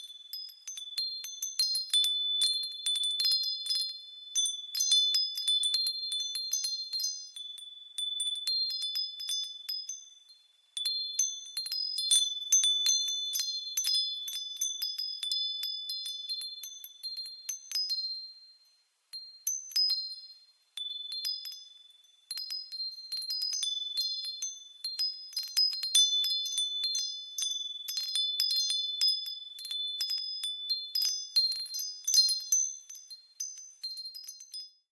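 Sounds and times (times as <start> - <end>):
wind chimes tinkling: 0.0 - 34.9.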